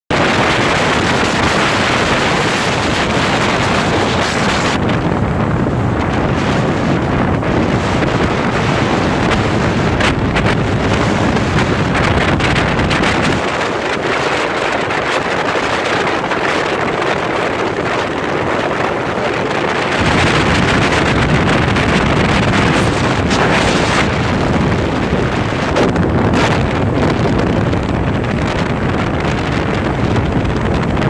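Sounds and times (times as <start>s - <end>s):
rush of boat wake: 0.1s - 31.0s
wind blasting microphone: 0.1s - 31.0s.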